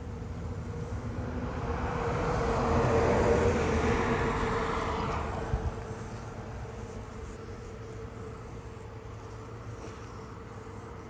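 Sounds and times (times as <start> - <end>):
steady low hum: 0.0 - 11.0
vehicle passing by: 0.0 - 11.0.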